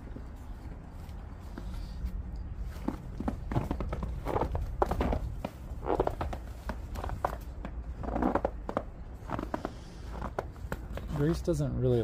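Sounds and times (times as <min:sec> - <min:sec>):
footsteps and shuffling: 0:00.0 - 0:12.0.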